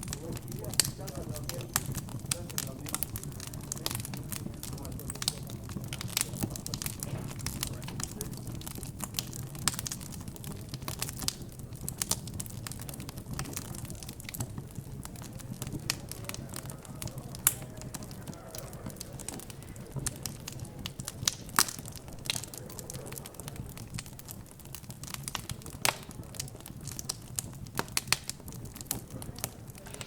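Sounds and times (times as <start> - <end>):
background chatter: 0.0 - 30.0
wood fire crackling: 0.0 - 30.0.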